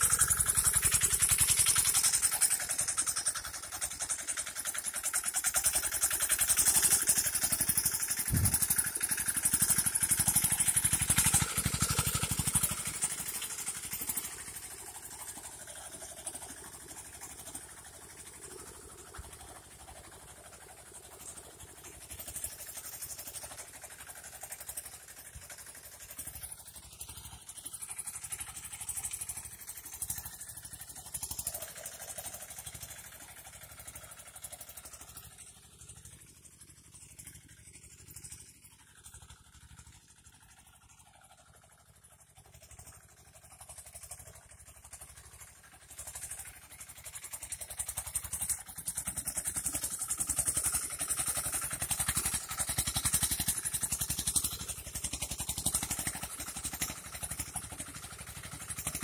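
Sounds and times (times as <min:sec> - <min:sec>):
tiller engine chugging: 0:00.0 - 0:59.0.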